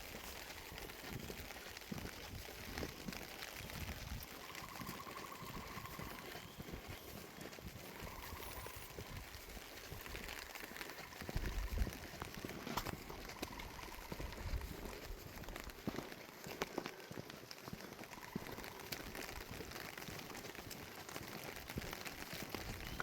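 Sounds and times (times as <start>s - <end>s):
rain patter: 0.0s - 23.0s.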